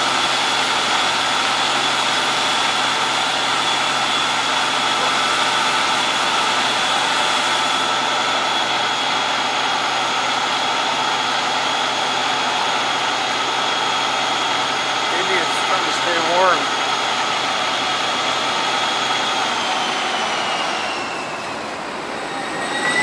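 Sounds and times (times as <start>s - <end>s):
fire engine pump hum: 0.0s - 23.0s
steady whining tones: 0.0s - 23.0s.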